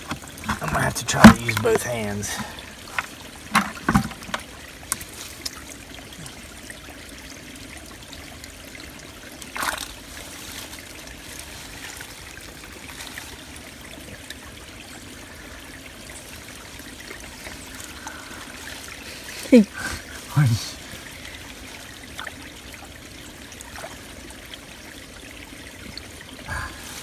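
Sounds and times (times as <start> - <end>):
creek water trickling over rocks: 0.0 - 27.0.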